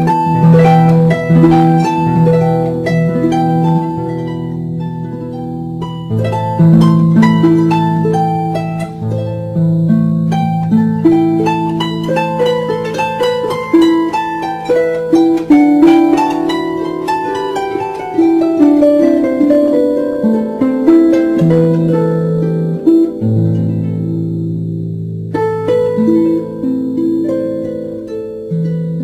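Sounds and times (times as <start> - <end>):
harp-like plucked string melody: 0.0 - 29.0.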